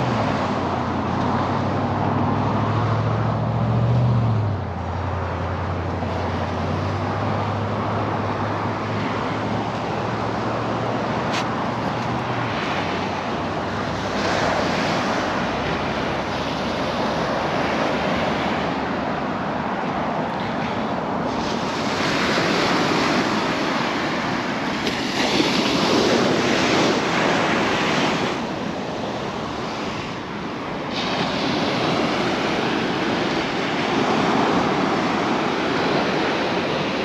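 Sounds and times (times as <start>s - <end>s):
low engine hum: 0.0s - 37.0s
ocean surf washing in: 0.0s - 37.0s.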